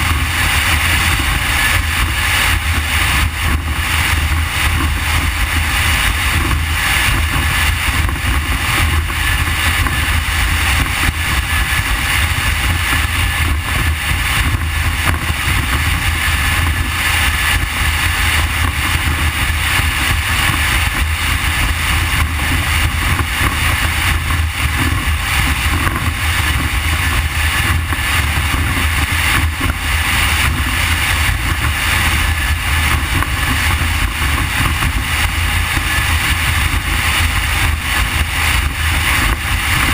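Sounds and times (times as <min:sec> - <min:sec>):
outboard motors running: 0:00.0 - 0:39.9.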